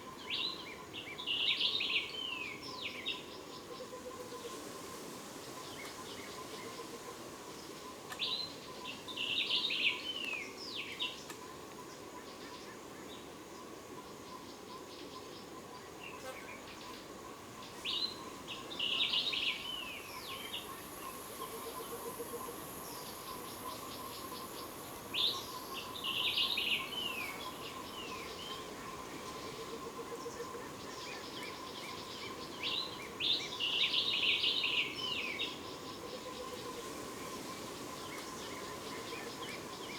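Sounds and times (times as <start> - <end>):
steady insect drone: 0.0 - 39.9.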